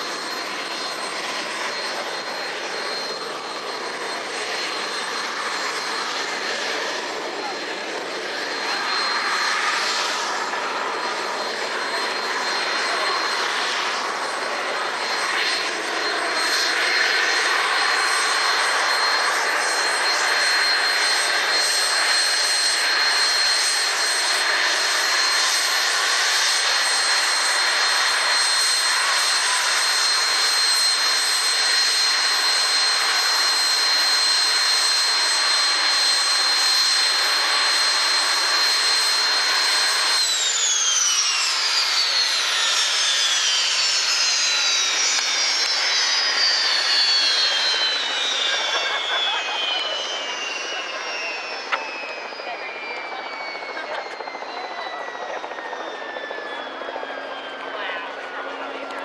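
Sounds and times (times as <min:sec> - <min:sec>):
jet engine roar with whine: 0:00.0 - 0:59.0.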